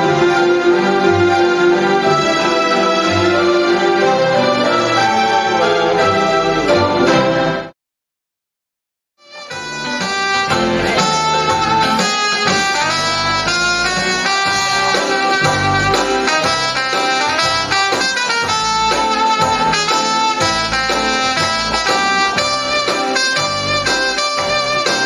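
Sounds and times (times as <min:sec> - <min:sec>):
upbeat accordion tune: 0:00.0 - 0:07.7, 0:09.2 - 0:25.0.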